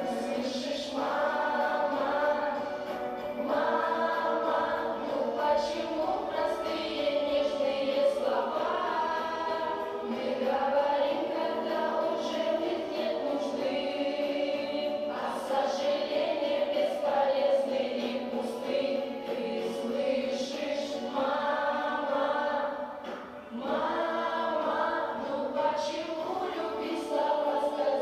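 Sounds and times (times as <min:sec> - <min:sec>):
choir singing slow piece: 0:00.0 - 0:28.0.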